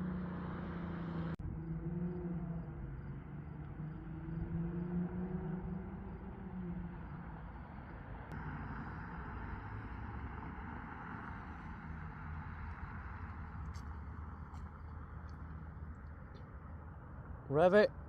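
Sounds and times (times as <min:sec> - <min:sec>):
car engine drone: 0:00.0 - 0:18.0
road and wind noise: 0:00.0 - 0:18.0.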